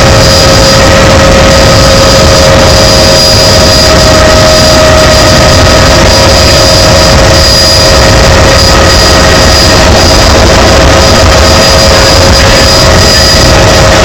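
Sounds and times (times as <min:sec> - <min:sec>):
helicopter engine and rotor noise: 0:00.0 - 0:14.0.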